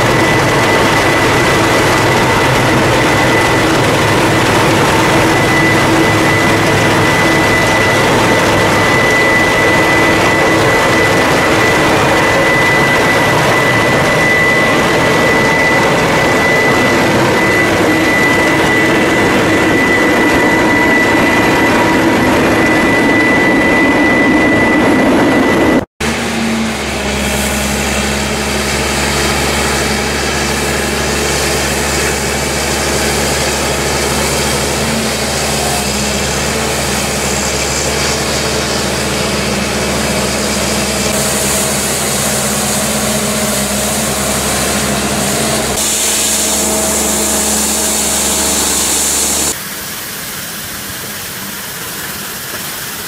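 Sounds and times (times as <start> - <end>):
snow blower hissing: 0.0 - 24.3, 26.0 - 53.0
engine hum: 0.0 - 49.6
steady high tone: 0.0 - 49.6.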